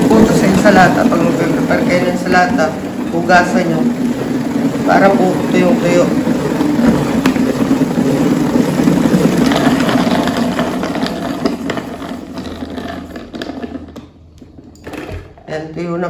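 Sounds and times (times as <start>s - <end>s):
salad spinner whirring: 0.0s - 16.0s.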